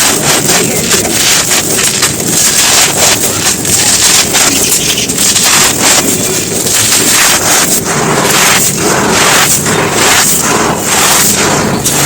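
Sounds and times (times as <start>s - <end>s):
dry earth crunching and crackling: 0.0s - 12.0s.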